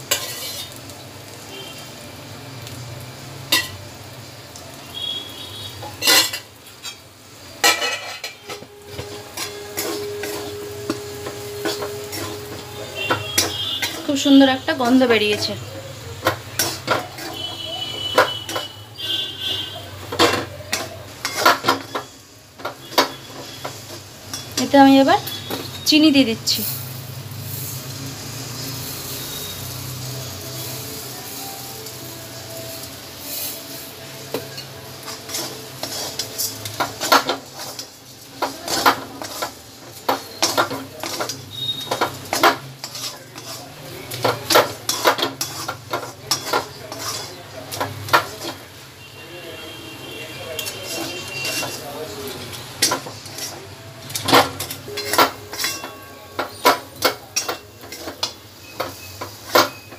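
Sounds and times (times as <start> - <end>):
metal spatula scraping a wok: 0.0 - 0.9, 3.5 - 3.9, 5.0 - 25.9, 26.5 - 59.9.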